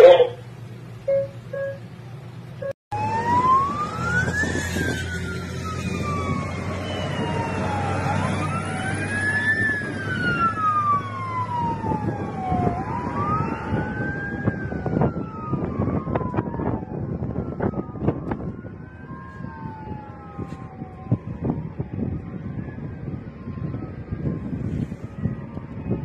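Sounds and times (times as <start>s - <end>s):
fire truck sirens wailing: 0.0s - 0.5s, 2.6s - 26.0s
engine drone: 0.0s - 26.0s.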